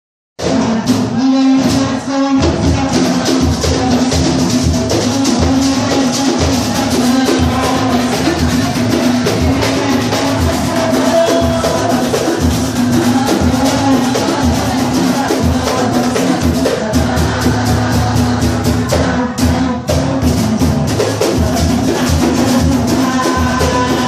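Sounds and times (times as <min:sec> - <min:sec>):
samba percussion ensemble: 0:00.4 - 0:24.0.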